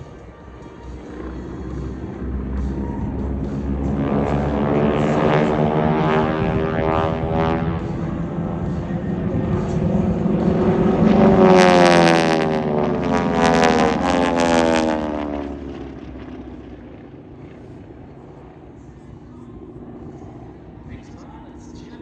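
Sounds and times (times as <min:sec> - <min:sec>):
propeller airplanes flying past: 0:00.0 - 0:22.0.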